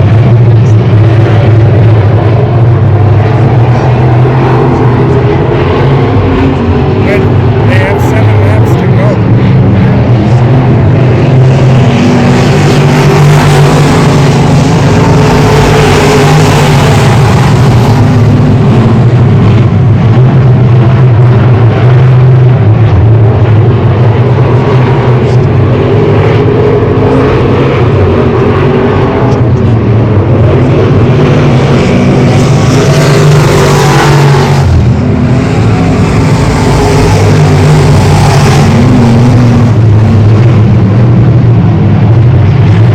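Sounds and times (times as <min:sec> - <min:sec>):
race car engines droning: 0:00.0 - 0:42.9.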